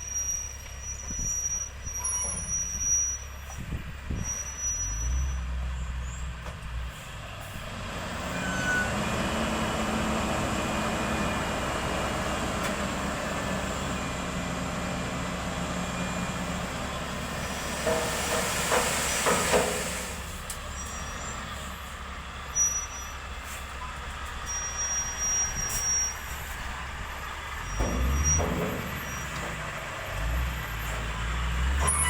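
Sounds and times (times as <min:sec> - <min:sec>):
diesel engine idling and revving: 0:00.0 - 0:32.0.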